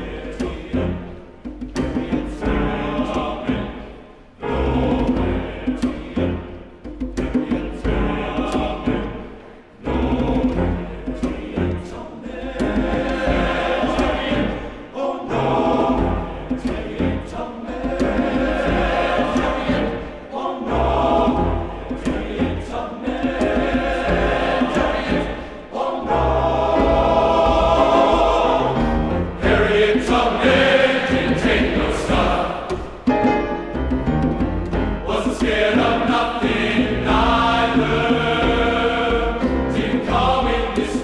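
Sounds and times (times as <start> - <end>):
gospel choir singing: 0.0 - 41.0.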